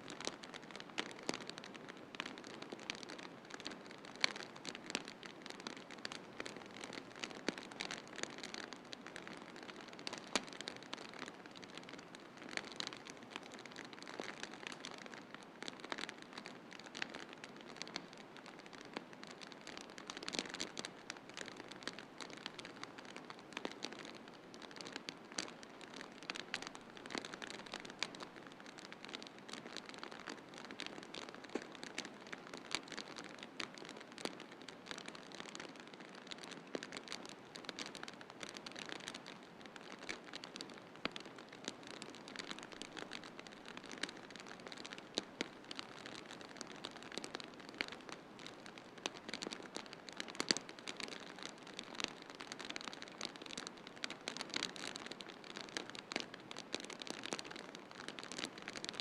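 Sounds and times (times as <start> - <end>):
wood fire crackling and popping: 0.2 - 59.0.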